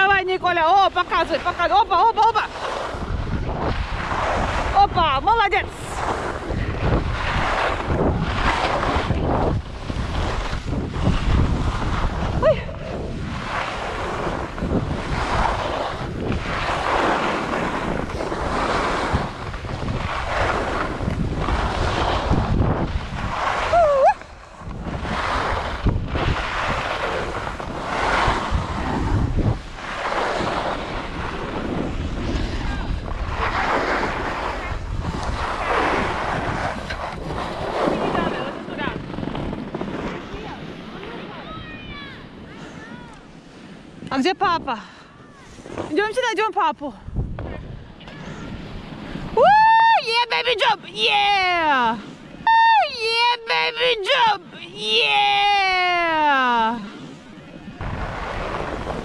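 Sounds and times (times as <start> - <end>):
wind buffeting microphone: 0.0 - 59.0
skis scraping over packed snow: 0.1 - 44.6, 53.7 - 59.0.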